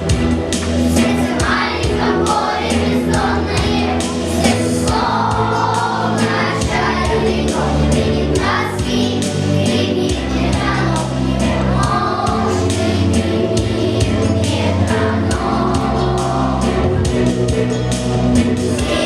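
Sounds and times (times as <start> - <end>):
choir singing: 0.0 - 19.0
instrumental backing track: 0.0 - 19.0.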